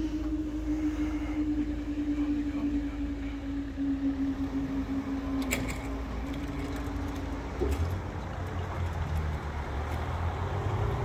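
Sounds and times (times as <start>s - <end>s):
barrier mechanism humming: 0.0s - 10.8s.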